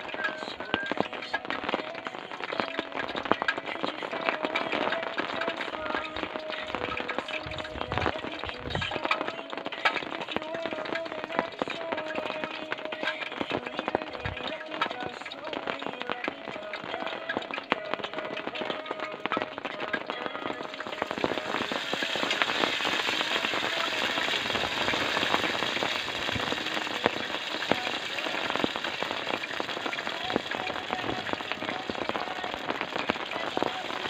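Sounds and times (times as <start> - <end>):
rain pattering on surface: 0.0 - 34.0.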